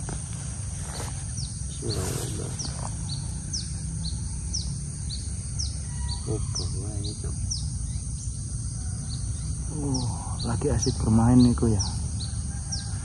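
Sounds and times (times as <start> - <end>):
bird chirps: 0.9 - 13.0.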